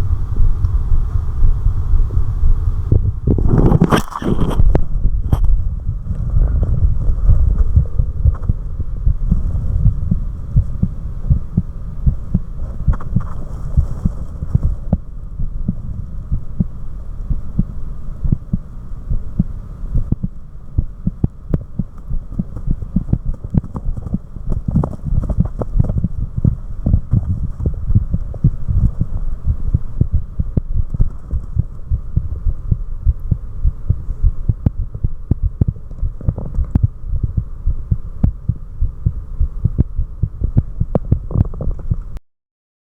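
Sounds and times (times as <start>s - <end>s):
heartbeat: 0.0s - 42.2s
steady low hum: 0.0s - 42.2s.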